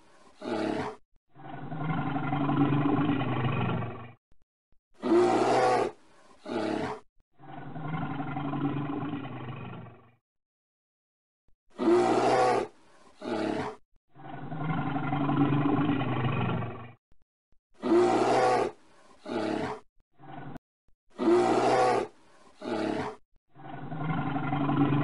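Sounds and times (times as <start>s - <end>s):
bear roaring: 0.2s - 4.0s, 5.0s - 10.0s, 11.8s - 16.8s, 17.8s - 20.6s, 21.2s - 25.0s.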